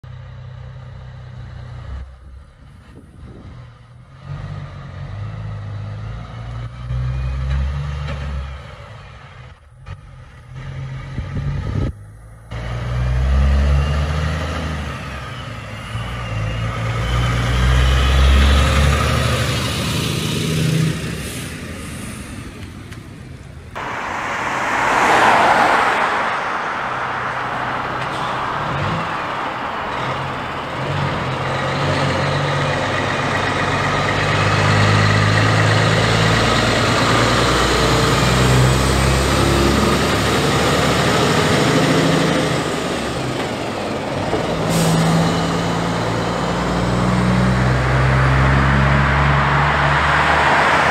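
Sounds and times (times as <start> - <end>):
truck diesel engine: 0.0 - 50.9.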